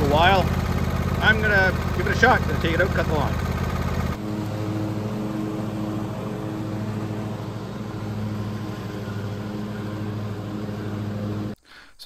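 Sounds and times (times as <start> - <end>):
riding lawn mower engine running: 0.0 - 11.6.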